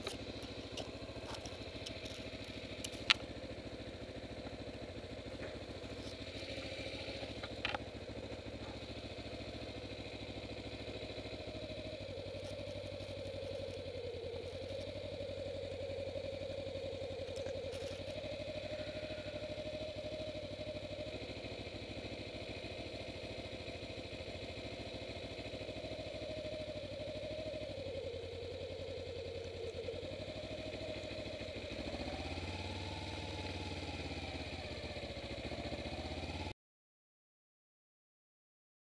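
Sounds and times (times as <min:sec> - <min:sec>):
motorcycle engine running: 0:00.0 - 0:36.6.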